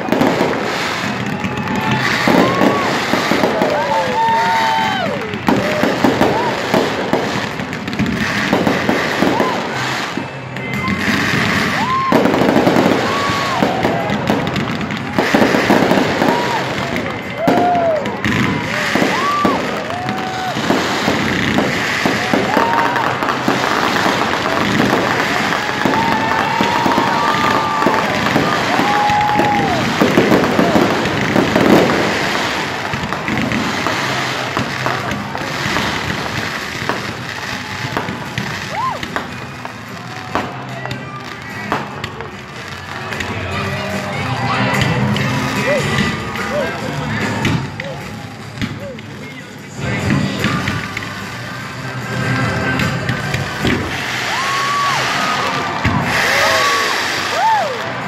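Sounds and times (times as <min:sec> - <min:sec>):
crowd voices: 0:00.0 - 0:58.0
fireworks bangs and crackles: 0:00.0 - 0:58.0.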